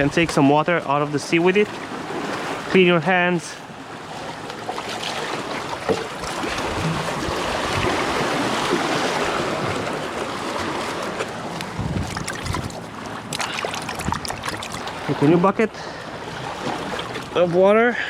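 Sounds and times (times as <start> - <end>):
sea water splashing: 0.0 - 18.0.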